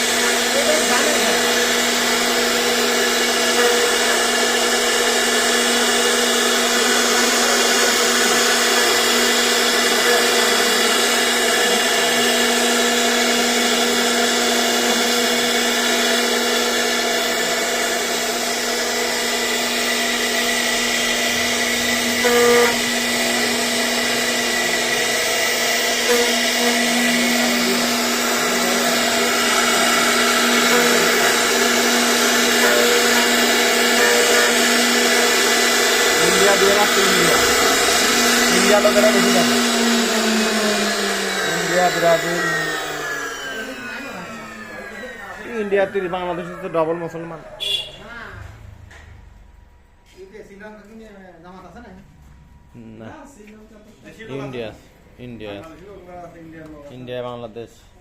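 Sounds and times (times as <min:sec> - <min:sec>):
router spindle whining: 0:00.0 - 0:48.0.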